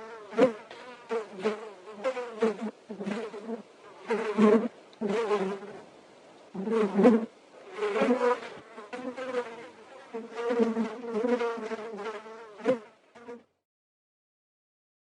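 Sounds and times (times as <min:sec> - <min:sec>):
insect buzzing: 0:00.0 - 0:05.9, 0:06.5 - 0:13.6.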